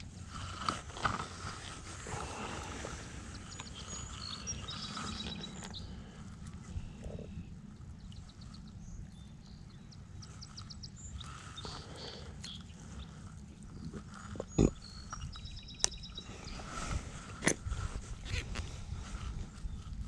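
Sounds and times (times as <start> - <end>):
low rumbling wind: 0.0 - 20.0.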